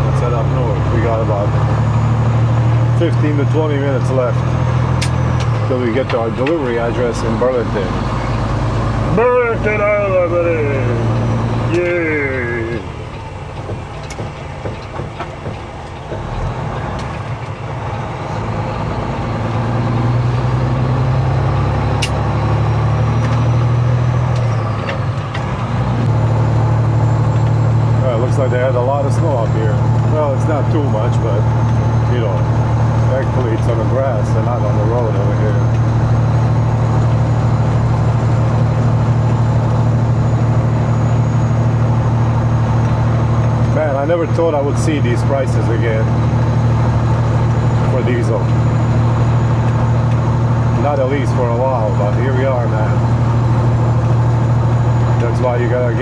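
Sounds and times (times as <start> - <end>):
road noise: 0.0 - 56.0
truck diesel engine drone: 0.0 - 56.0.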